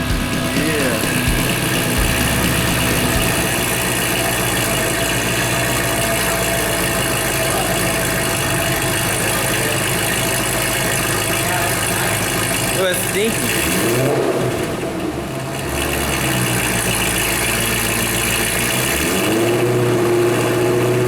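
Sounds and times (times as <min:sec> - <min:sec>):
car engine running steadily: 0:00.0 - 0:21.0.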